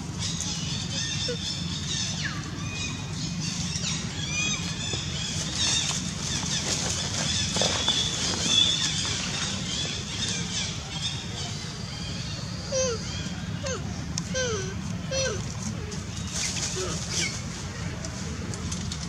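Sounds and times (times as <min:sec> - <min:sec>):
small birds chirping: 0:00.1 - 0:17.5.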